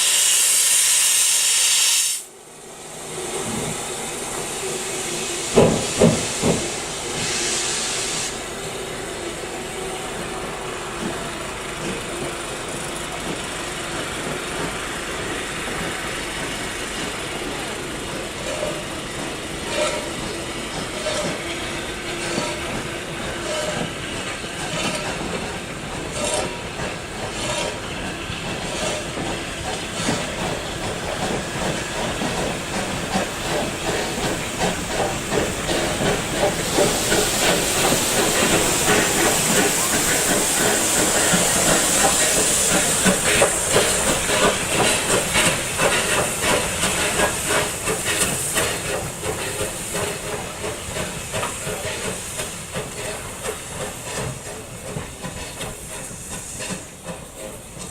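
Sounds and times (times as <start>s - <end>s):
escaping steam hissing: 0.0s - 57.9s
steam locomotive chugging: 0.0s - 57.9s.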